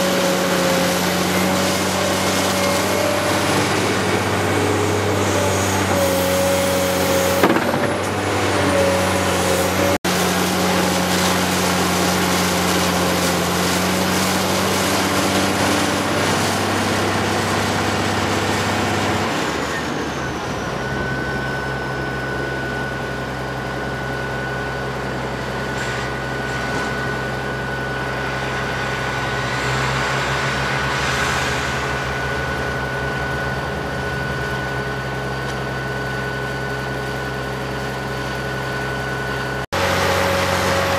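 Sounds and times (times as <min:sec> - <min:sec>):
excavator diesel engine running: 0:00.0 - 0:40.9
thin high whine: 0:00.0 - 0:40.9.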